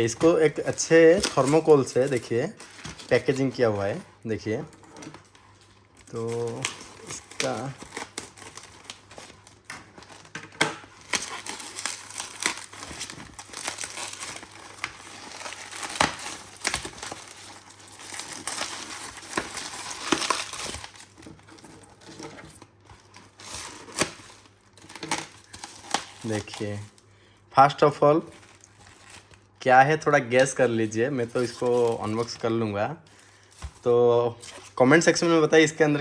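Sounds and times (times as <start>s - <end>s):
plastic packaging crinkling: 0.0s - 27.0s, 28.0s - 35.8s.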